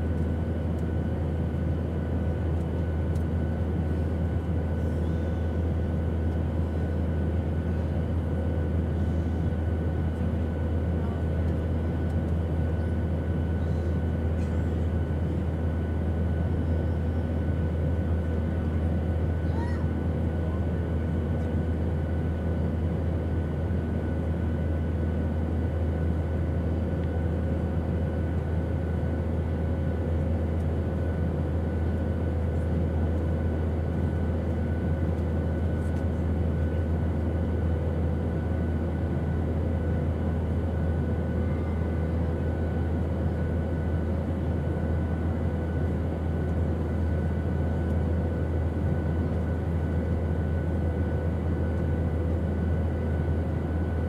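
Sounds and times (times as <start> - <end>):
airplane engine drone: 0.0 - 54.0.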